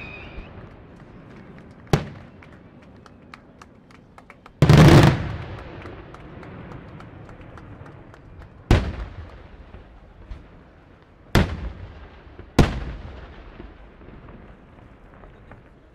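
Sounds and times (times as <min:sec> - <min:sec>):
fireworks bangs: 0:00.0 - 0:03.3, 0:04.5 - 0:15.9.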